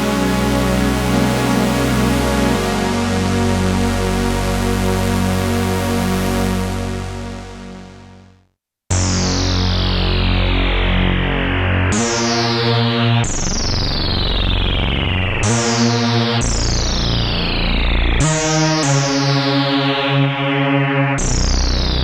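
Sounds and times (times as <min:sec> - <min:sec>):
synthesizer bass and chords: 0:00.0 - 0:22.0.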